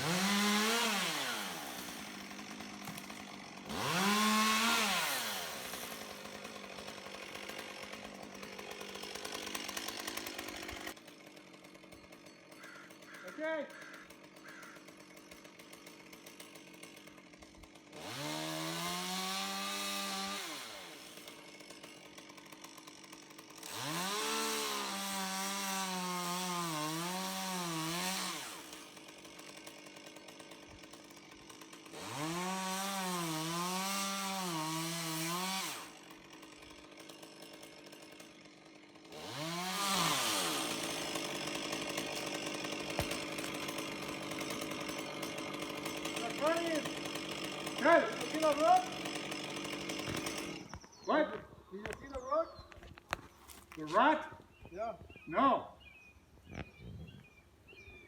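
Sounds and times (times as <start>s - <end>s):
two-stroke chainsaw revving: 0.0s - 51.0s.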